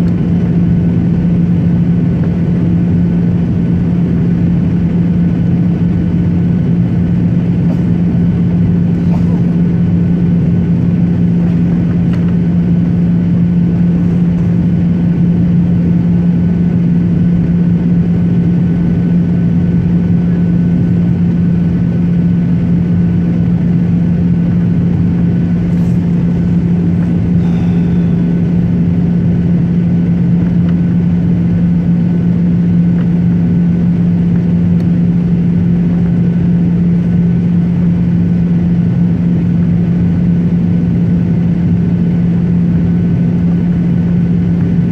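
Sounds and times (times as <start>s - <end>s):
airliner engines droning in cabin: 0.0s - 44.9s.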